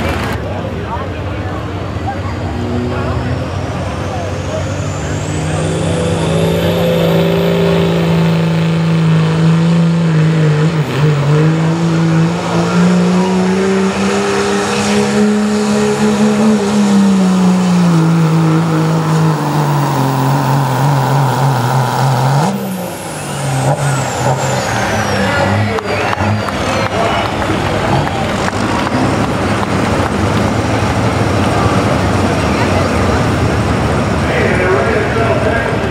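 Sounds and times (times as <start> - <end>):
truck engine under heavy load: 0.0 - 35.9.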